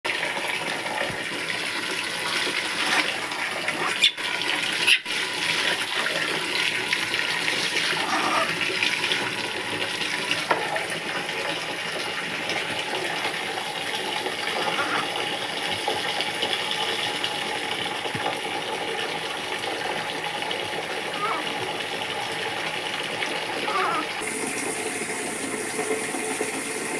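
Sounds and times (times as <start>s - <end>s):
running water: 0.1s - 26.9s.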